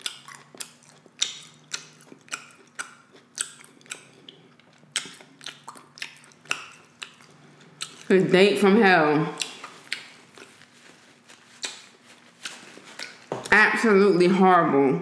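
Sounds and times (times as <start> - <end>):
close chewing of sausage: 0.0 - 8.2, 9.4 - 13.3.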